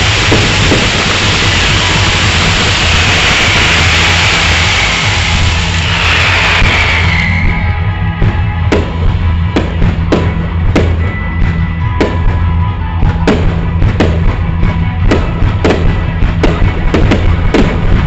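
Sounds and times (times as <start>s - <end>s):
fireworks bursting: 0.0s - 18.0s
loud rock music: 0.0s - 18.0s.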